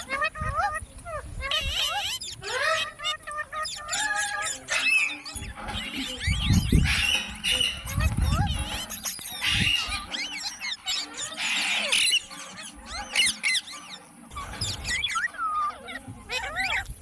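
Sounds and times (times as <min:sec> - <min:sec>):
parrot chirping and whistling: 0:00.0 - 0:16.9
parrot screech: 0:01.4 - 0:16.8.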